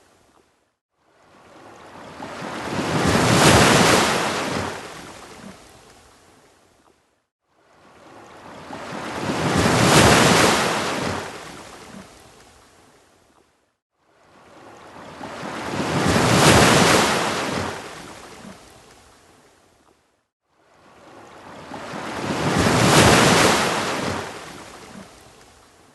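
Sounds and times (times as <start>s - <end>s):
ocean waves breaking on beach: 1.0s - 6.5s, 7.4s - 13.0s, 14.0s - 19.6s, 20.5s - 25.9s.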